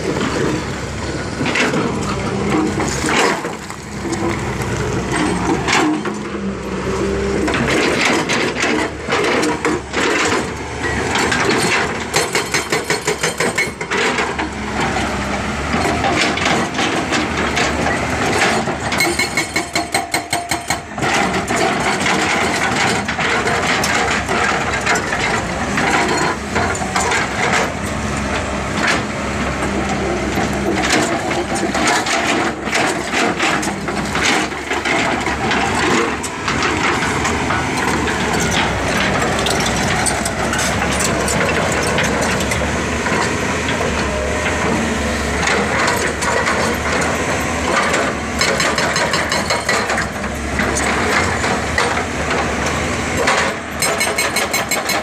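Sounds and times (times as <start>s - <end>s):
machine and rock clatter: 0.0s - 55.0s.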